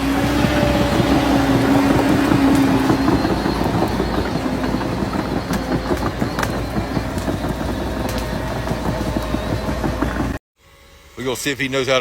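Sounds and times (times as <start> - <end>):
bulldozer diesel engine drone: 0.0 - 11.6.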